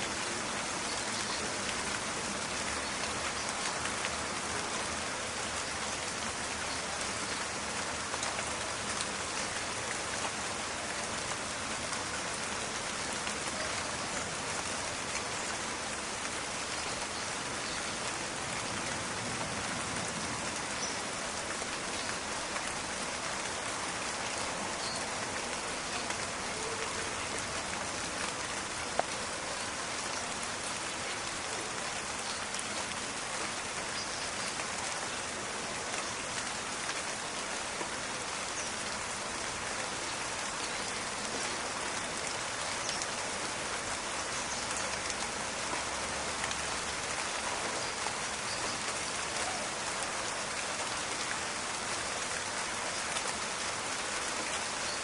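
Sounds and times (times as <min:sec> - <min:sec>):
rain falling in a forest: 0:00.0 - 0:55.0.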